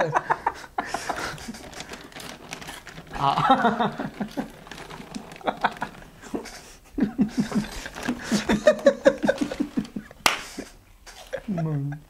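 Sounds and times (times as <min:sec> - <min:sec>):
men laughing: 0:00.0 - 0:02.3, 0:03.1 - 0:12.0.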